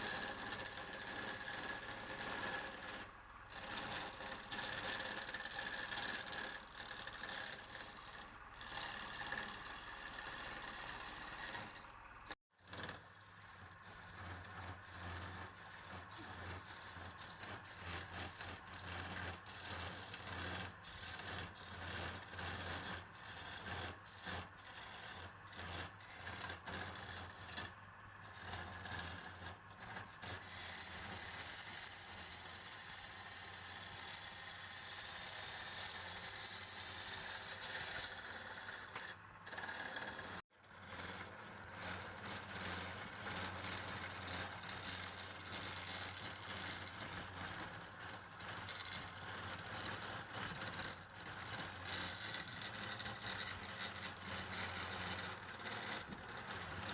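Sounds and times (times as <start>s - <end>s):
tool scraping spinning wood: 0.0s - 56.9s.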